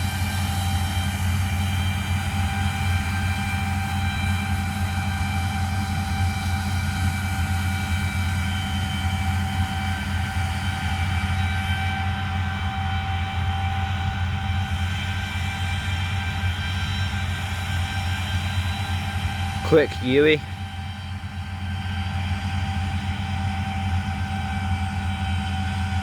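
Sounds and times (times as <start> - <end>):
low engine drone: 0.0 - 26.0
steady whining tones: 0.0 - 26.0.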